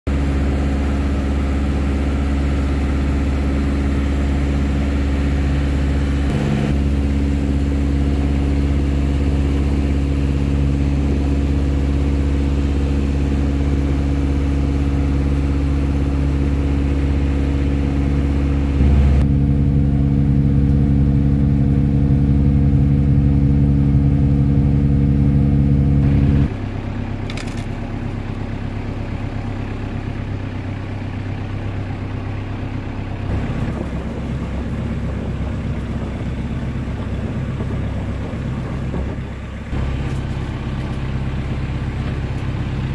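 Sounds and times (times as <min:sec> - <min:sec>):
boat motor humming: 0:00.1 - 0:27.2, 0:33.3 - 0:42.9.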